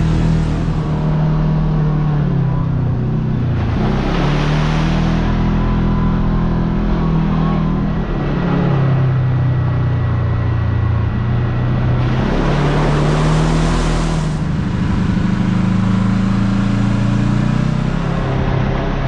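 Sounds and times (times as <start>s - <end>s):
loud rushing noise: 0.0s - 16.4s
off-road vehicle engine running: 0.0s - 19.0s.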